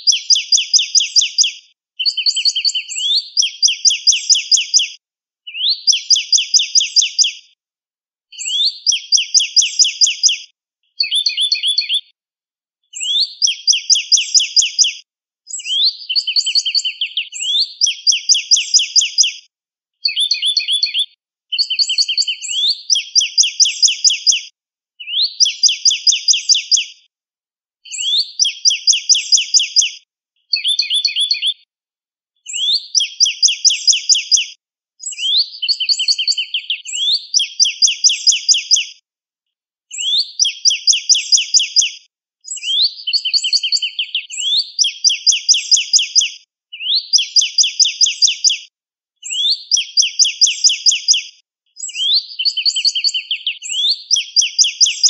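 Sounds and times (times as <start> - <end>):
bird singing clear whistles: 0.0 - 7.4, 8.4 - 10.4, 11.0 - 12.1, 12.9 - 19.4, 20.0 - 26.9, 27.9 - 31.6, 32.4 - 38.9, 39.9 - 48.6, 49.2 - 55.0.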